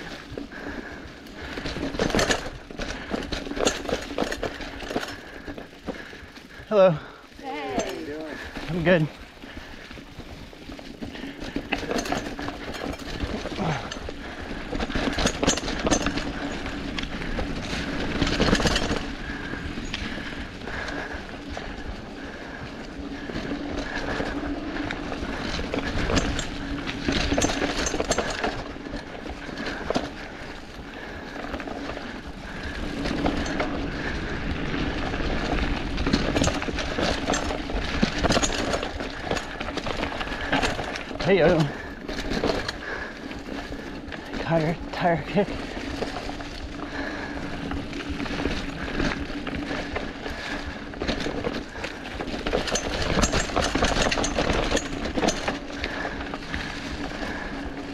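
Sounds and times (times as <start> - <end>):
bike rattling over bumps: 0.0 - 57.9
bike tyres on dirt trail: 0.0 - 57.9.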